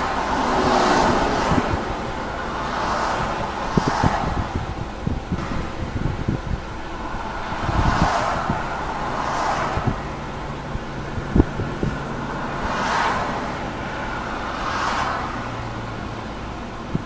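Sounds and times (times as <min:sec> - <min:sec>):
low traffic hum: 0:00.0 - 0:17.0
vehicles swishing past: 0:00.0 - 0:17.0.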